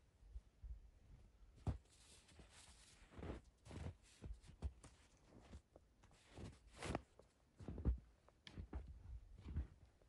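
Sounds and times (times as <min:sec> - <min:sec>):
footstep crunching in snow: 0:01.6 - 0:09.8.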